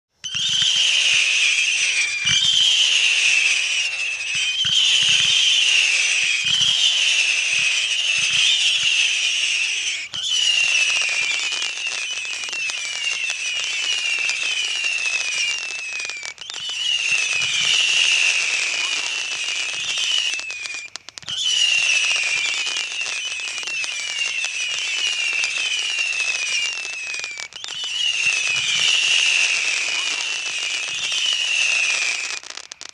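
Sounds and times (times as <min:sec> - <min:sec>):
whistling firework rockets: 0:00.1 - 0:32.9.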